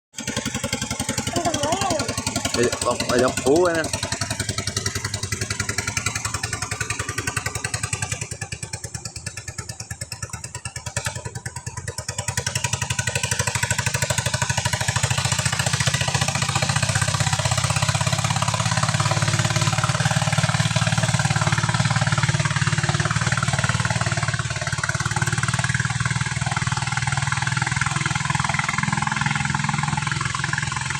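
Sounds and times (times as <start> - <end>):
small boat engine running: 0.1 - 30.9.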